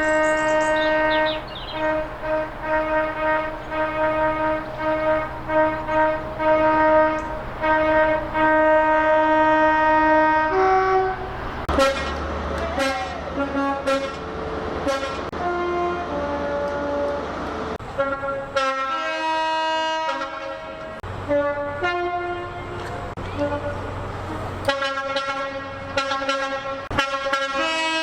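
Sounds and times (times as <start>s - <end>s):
passing train rushing: 0.0s - 28.0s
train horn short toots: 0.0s - 28.0s
two-tone train horn: 0.0s - 28.0s.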